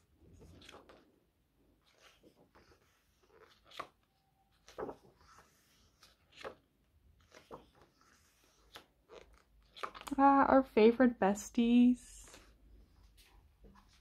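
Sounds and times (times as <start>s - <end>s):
book pages turning: 0.0s - 10.2s, 12.3s - 14.0s.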